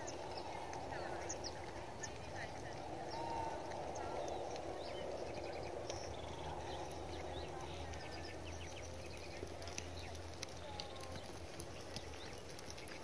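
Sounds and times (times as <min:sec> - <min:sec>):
low outdoor background hum: 0:00.0 - 0:13.0
small birds chirping: 0:00.0 - 0:13.0.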